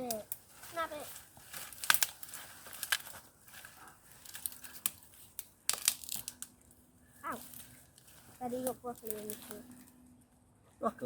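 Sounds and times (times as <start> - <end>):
twigs snapping: 0.0 - 10.1
dead wood and leaves rustling: 0.0 - 11.0.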